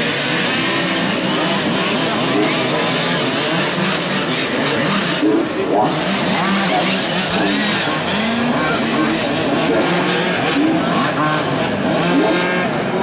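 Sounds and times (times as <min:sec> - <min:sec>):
small two-stroke engines revving: 0:00.0 - 0:13.0.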